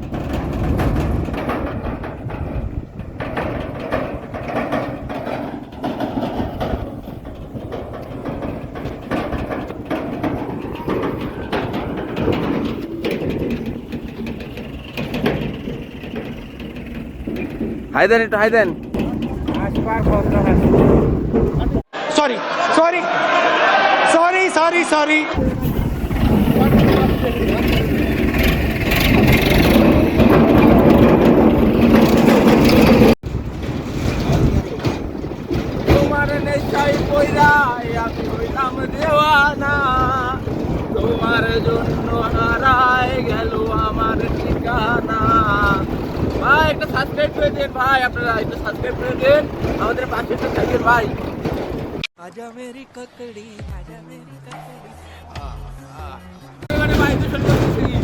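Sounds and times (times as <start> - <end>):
tractor engine rattling: 0.0 - 21.9, 25.3 - 52.2, 56.6 - 58.0.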